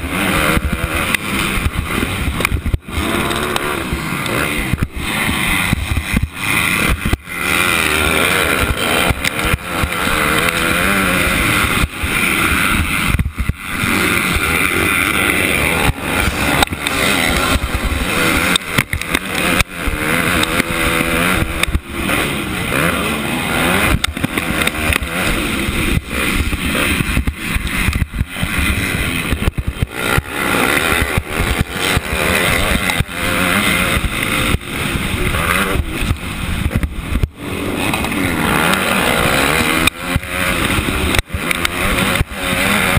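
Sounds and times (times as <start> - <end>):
motocross bike engine racing: 0.0 - 42.9.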